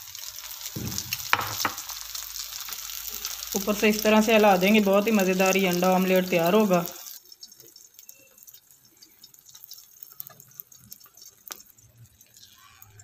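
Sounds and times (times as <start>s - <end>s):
omelette sizzling with crackling pops: 0.0s - 13.0s.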